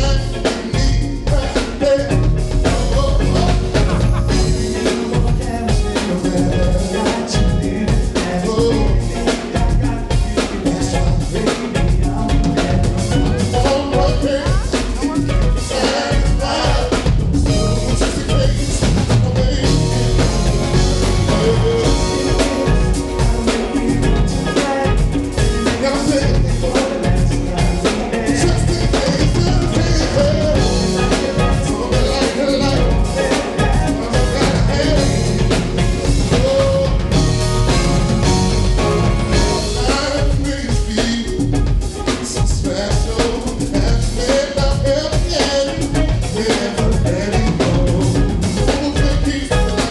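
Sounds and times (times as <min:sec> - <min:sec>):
drum kit steady beat: 0:00.0 - 0:49.9
live band playing: 0:00.0 - 0:49.9.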